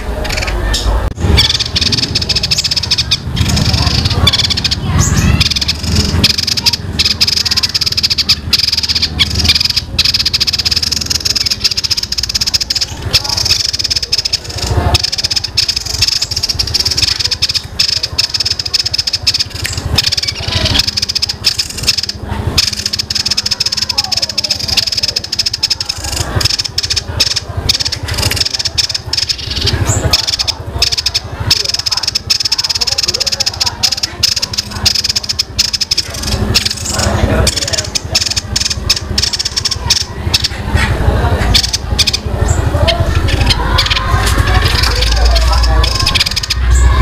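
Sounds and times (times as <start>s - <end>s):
songbird rapid rolling chatter: 0.0s - 47.0s.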